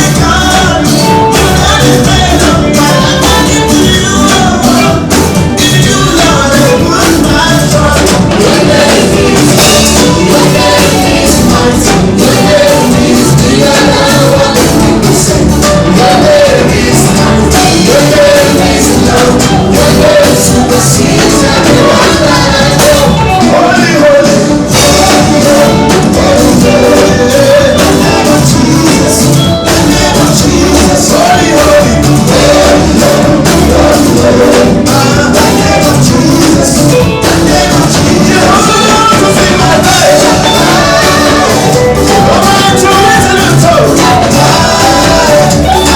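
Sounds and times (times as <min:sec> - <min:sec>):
band with drums playing: 0:00.0 - 0:45.9
singing: 0:00.0 - 0:45.9.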